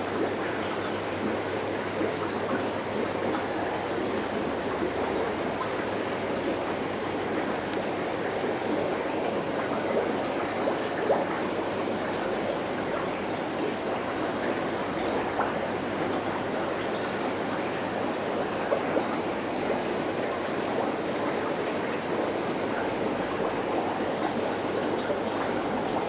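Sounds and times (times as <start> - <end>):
aquarium water bubbling: 0.0 - 26.0.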